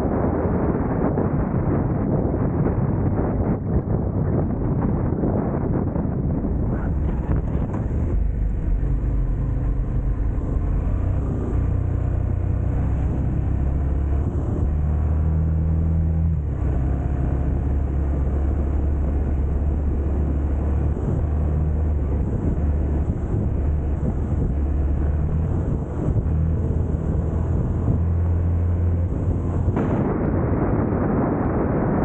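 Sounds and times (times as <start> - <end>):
motorcycle engine running at low revs: 0.0 - 32.0.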